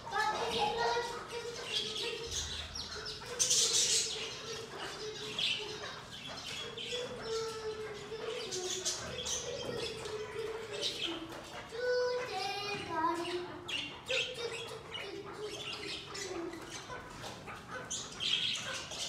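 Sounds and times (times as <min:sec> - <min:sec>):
birds calling and chirping: 0:00.0 - 0:19.0.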